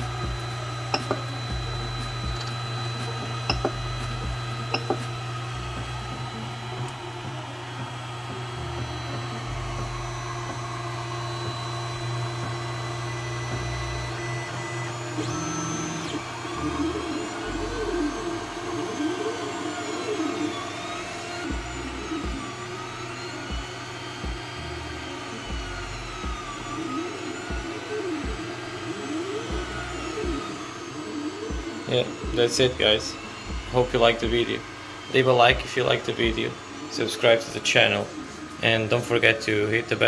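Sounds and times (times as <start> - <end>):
printer fans humming: 0.0 - 40.0
stepper motors whining: 0.0 - 40.0.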